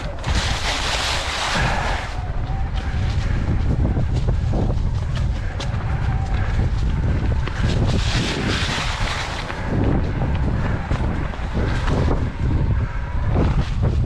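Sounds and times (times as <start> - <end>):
rattles and clicks from rough ground: 0.0 - 12.7
wind buffeting microphone: 0.0 - 14.0.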